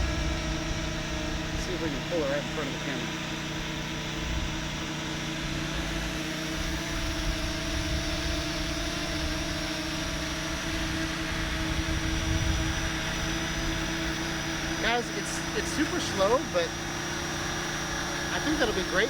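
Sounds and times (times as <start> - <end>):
drone propellers whining: 0.0 - 19.0
low uneven rumble: 0.0 - 19.0.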